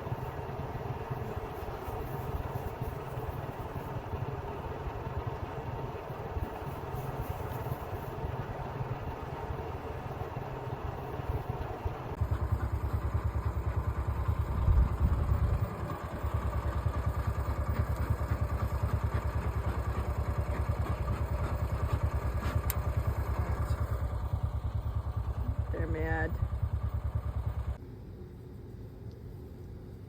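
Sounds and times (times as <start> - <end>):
engine running with low throb: 0.0 - 30.0.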